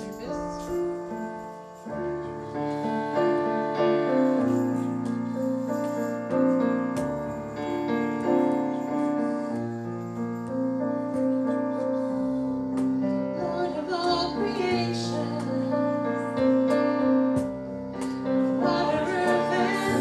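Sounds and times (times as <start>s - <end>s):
piano playing hymn chords: 0.0s - 20.0s.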